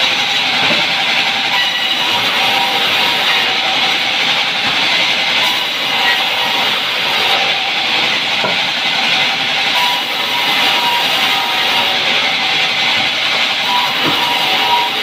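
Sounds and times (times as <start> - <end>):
band saw cutting log: 0.0 - 15.0.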